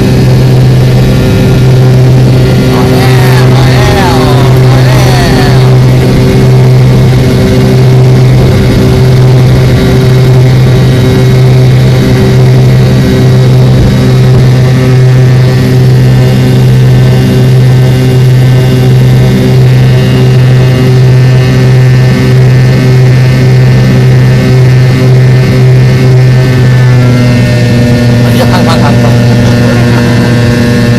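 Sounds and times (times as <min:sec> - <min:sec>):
airliner engines humming in cabin: 0:00.0 - 0:30.9.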